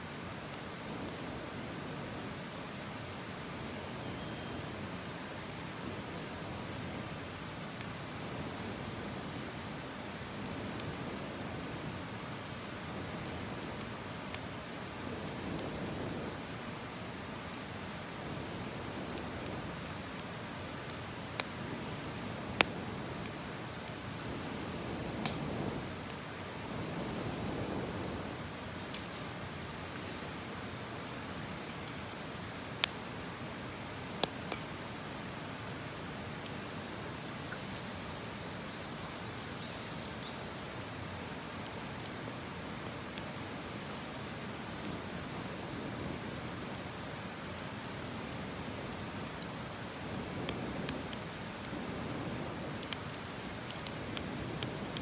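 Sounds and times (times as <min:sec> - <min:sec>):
campfire hissing: 0:00.0 - 0:55.0
fire crackling and popping: 0:00.0 - 0:55.0.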